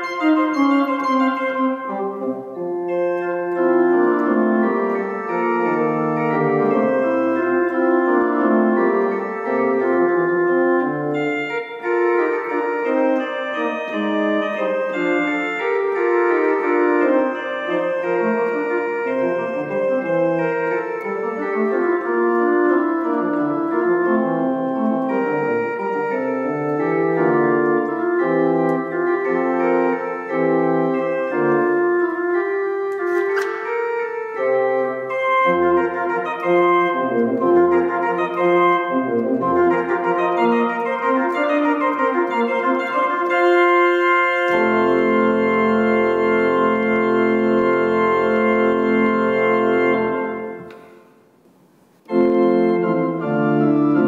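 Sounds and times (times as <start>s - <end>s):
church organ chords: 0.0s - 51.2s, 52.0s - 54.0s.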